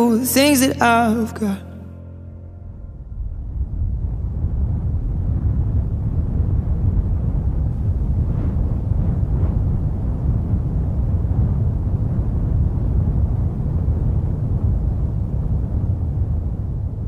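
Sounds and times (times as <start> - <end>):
steady low rumbling: 0.0 - 17.0.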